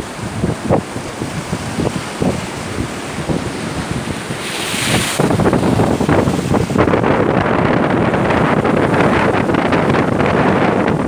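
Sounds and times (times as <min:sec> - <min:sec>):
waves washing over shore: 0:00.0 - 0:11.0
wind buffeting microphone: 0:00.0 - 0:11.0.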